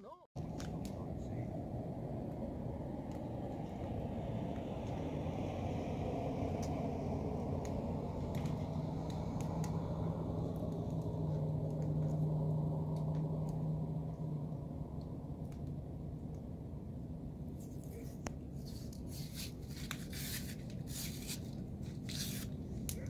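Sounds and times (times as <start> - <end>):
hum: 0.0 - 23.0
low rumble: 0.0 - 23.0
campfire embers crackling: 0.4 - 23.0.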